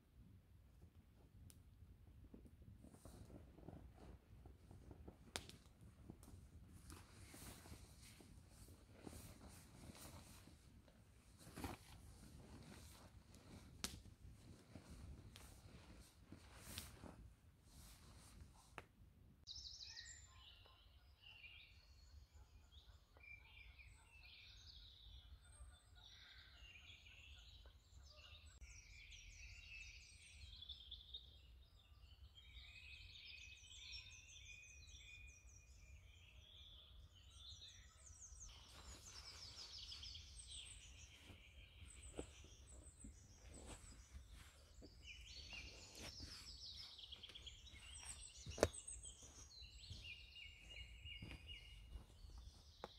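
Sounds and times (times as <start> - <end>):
songbirds chirping: 2.3 - 18.7, 19.4 - 52.9.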